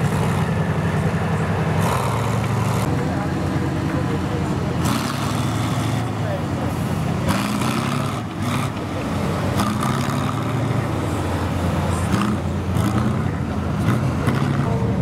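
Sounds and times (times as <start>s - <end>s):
armoured vehicle engine running: 0.0s - 15.0s.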